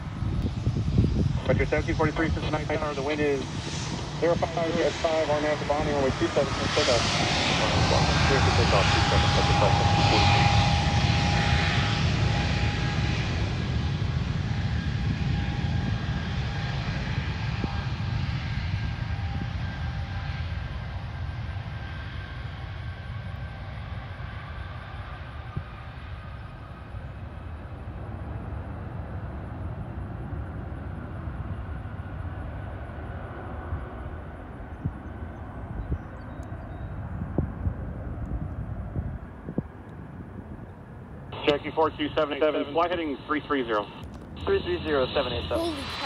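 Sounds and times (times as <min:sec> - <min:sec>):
jet engines rumbling and whining: 0:00.0 - 0:46.0.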